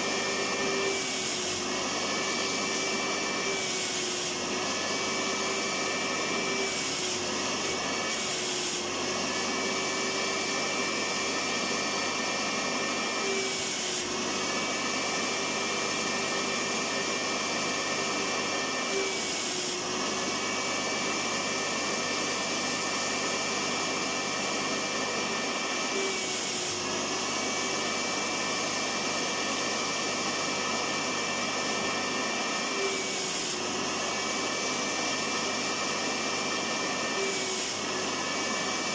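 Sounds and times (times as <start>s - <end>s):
vacuum cleaner motor running: 0.0s - 38.9s.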